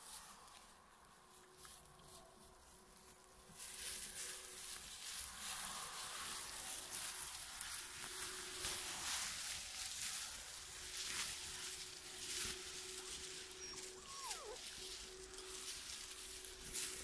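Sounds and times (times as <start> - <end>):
undergrowth rustling and crackling: 0.0 - 17.0.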